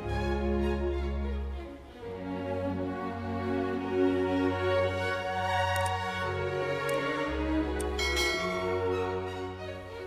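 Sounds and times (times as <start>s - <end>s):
orchestral music with strings: 0.0s - 10.0s.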